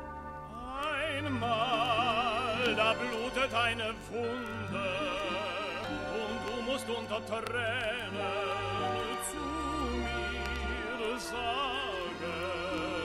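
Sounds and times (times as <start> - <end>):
operatic singing with orchestra: 0.0 - 13.0.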